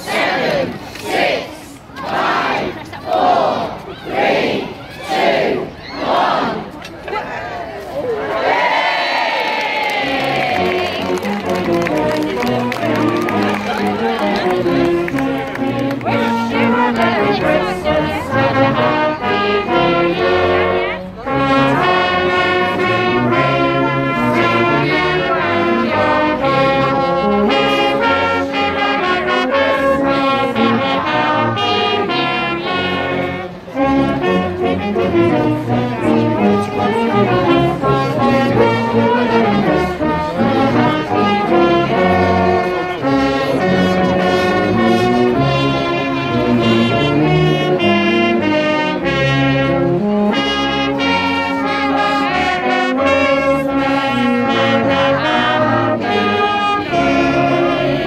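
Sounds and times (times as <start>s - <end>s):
brass band playing: 9.9s - 58.0s.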